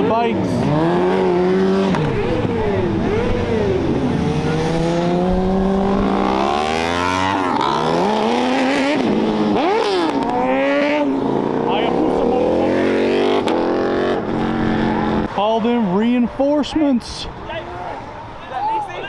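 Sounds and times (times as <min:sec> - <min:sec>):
motorcycles revving and passing: 0:00.0 - 0:18.5.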